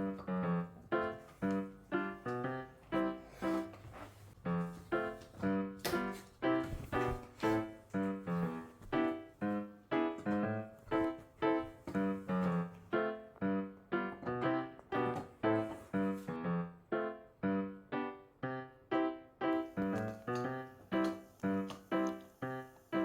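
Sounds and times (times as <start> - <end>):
piano-like keyboard melody: 0.0 - 23.0.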